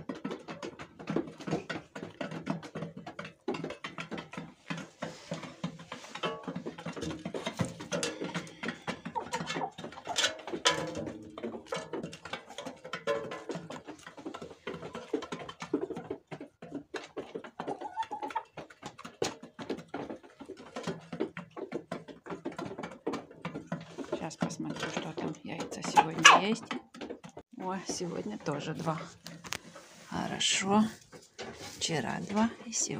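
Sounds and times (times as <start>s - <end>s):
beaks tapping metal trough: 0.0s - 32.9s
hens clucking: 0.0s - 32.9s.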